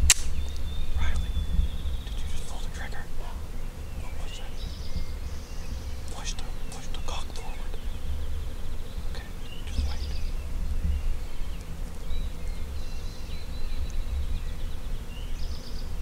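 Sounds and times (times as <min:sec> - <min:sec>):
low uneven rumble: 0:00.0 - 0:16.0
songbirds chirping and singing: 0:00.0 - 0:16.0.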